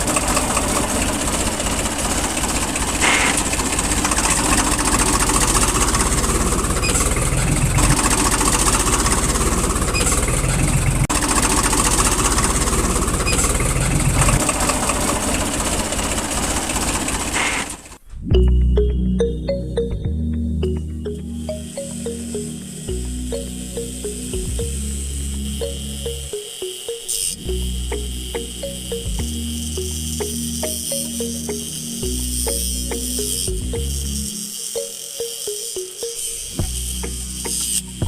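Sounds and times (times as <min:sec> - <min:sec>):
engine-like mechanical running: 0:00.0 - 0:18.0, 0:21.4 - 0:38.0.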